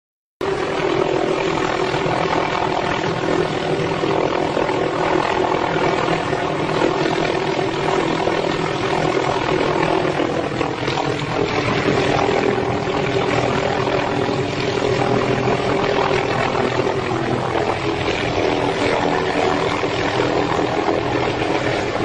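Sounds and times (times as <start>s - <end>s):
helicopter hovering: 0.4s - 22.0s.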